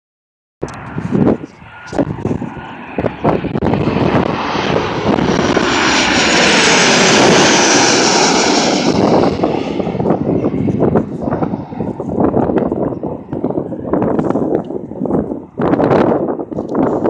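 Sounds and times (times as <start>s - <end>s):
jet airliner passing overhead: 0.6s - 17.0s.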